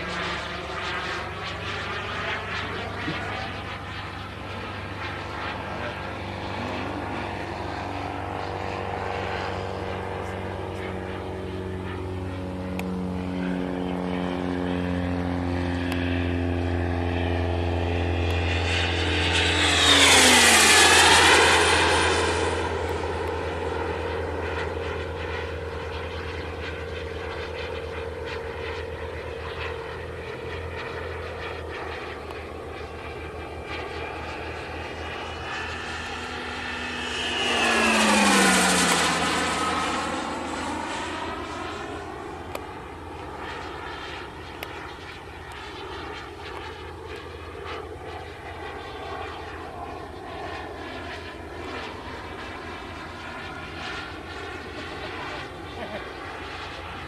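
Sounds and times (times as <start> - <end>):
model aircraft engine drone: 0.0 - 57.0.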